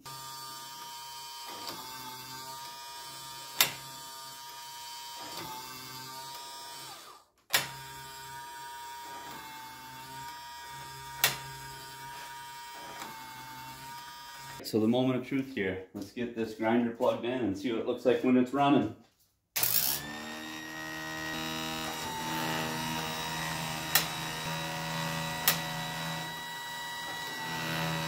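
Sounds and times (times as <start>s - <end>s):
small electric motor whining: 0.0s - 14.6s, 19.6s - 28.0s.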